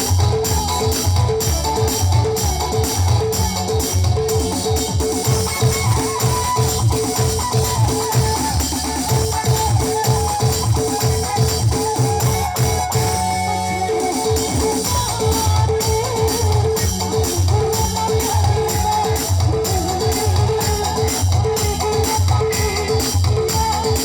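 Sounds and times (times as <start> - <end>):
band playing music: 0.0 - 24.0
bass: 0.0 - 24.0
drums: 0.0 - 24.0.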